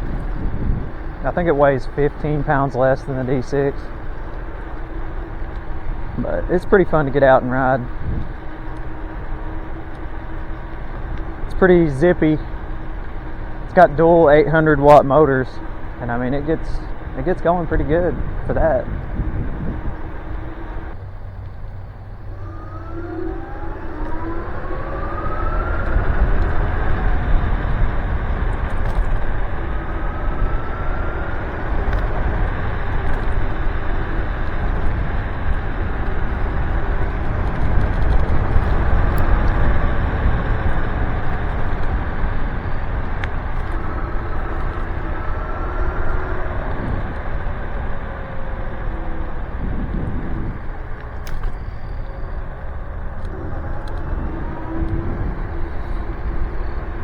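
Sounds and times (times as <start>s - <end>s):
electric scooter motor whining: 0.0s - 57.0s
tyres rumbling: 0.0s - 57.0s
wind: 0.0s - 57.0s.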